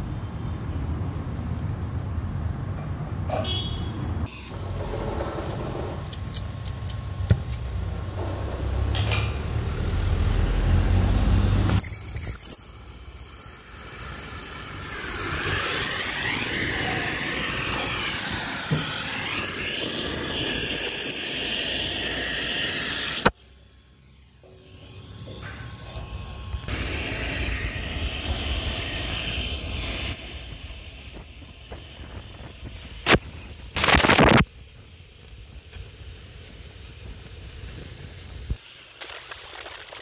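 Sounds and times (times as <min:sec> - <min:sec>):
cutting torch hissing: 0:04.2 - 0:40.0.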